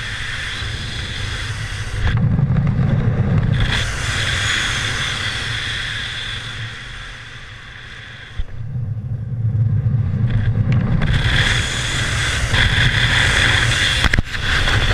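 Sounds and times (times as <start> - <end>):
wind rushing over microphone: 0.0 - 14.9.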